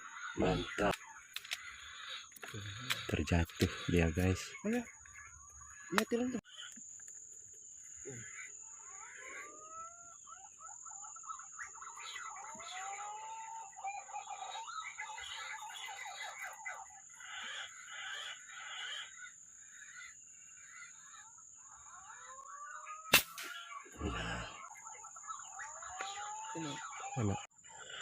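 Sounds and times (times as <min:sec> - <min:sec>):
birds chirping and whistling: 0:00.0 - 0:06.8, 0:07.7 - 0:28.0.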